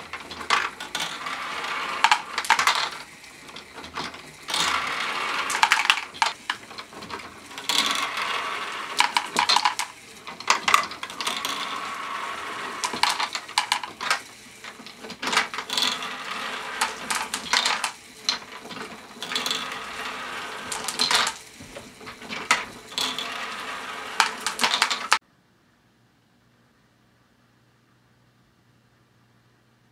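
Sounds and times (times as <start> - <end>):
plastic balls clattering: 0.0 - 25.2
plastic mechanism turning: 0.1 - 25.2.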